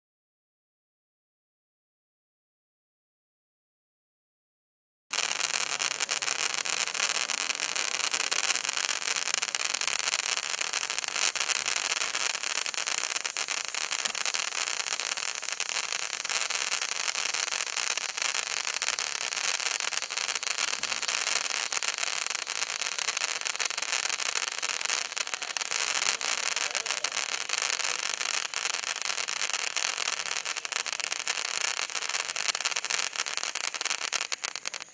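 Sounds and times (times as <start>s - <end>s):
sparkler fountain hissing and crackling: 5.1s - 34.9s.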